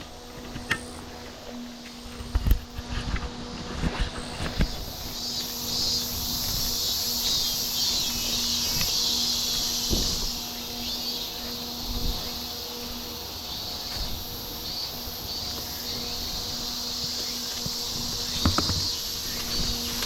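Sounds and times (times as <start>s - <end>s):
insects chirring: 0.0s - 20.0s
low hum of small fans: 0.0s - 20.0s.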